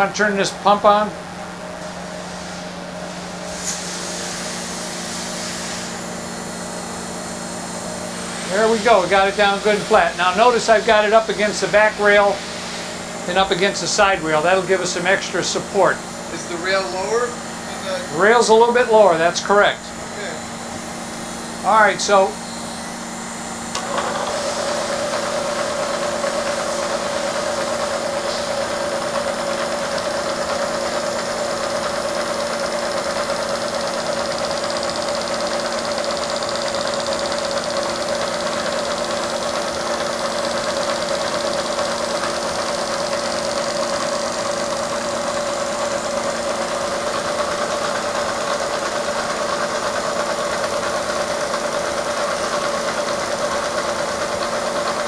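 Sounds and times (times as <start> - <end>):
milling machine humming: 0.0 - 55.0.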